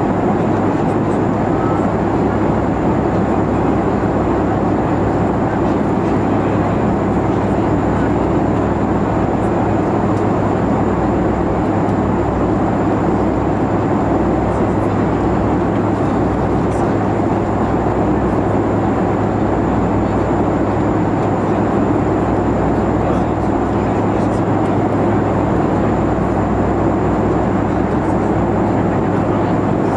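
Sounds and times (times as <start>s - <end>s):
air rushing along fuselage: 0.0s - 29.9s
jet engine drone: 0.0s - 29.9s.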